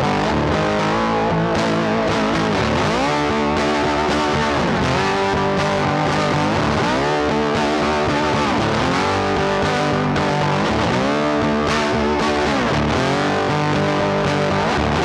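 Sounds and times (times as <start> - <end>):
blues music with electric guitar: 0.0 - 15.0.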